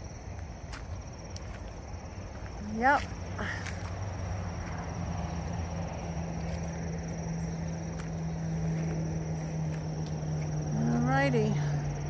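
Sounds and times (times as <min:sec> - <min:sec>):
crickets trilling: 0:00.0 - 0:12.0
road traffic hum: 0:00.0 - 0:12.0.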